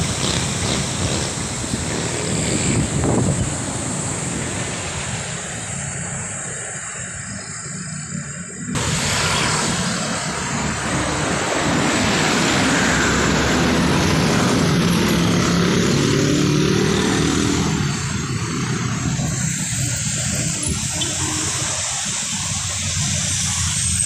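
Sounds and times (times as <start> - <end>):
motorcycle engines droning: 0.0 - 24.0
road traffic passing: 0.0 - 24.0
wind noise on microphone: 0.0 - 24.0.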